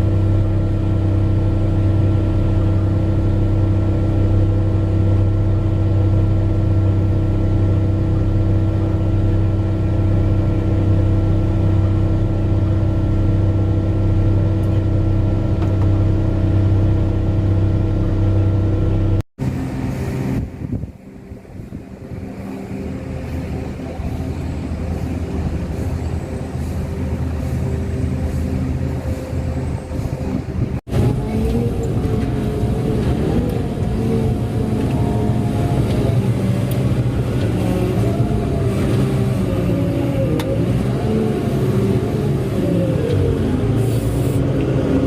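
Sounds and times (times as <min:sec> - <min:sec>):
diesel engine deep hum: 0:00.0 - 0:45.0
quieter engine sound: 0:00.0 - 0:45.0.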